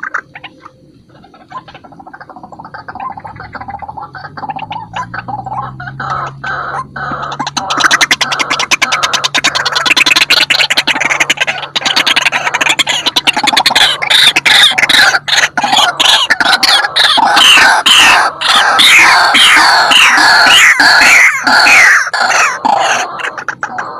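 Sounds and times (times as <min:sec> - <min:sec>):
bird harsh croaking calls: 0:00.0 - 0:23.9.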